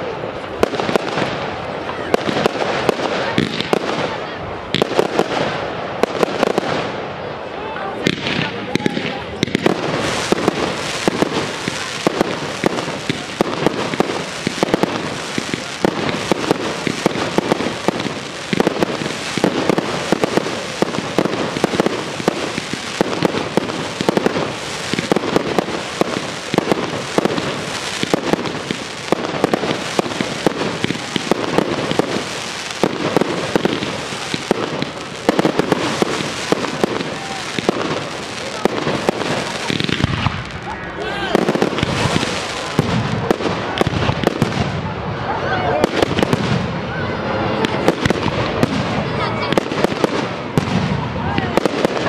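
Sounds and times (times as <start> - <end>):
fireworks banging and crackling: 0.0 - 52.0.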